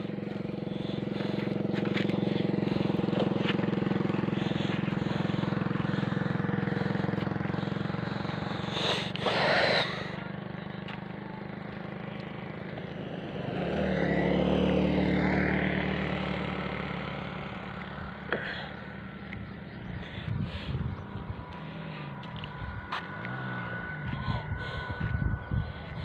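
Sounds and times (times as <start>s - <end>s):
engine passing by: 0.0s - 26.0s
small engine running: 0.0s - 26.0s.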